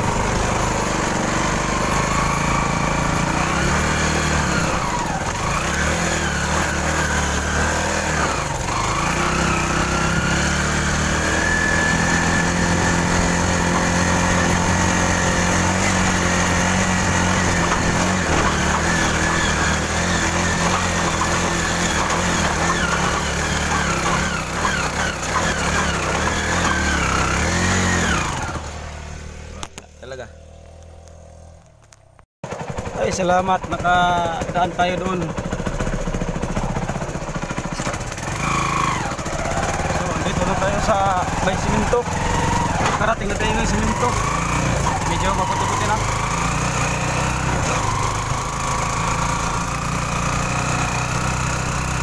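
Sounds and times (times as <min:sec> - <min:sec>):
motorcycle engine revving under load: 0:00.0 - 0:52.0.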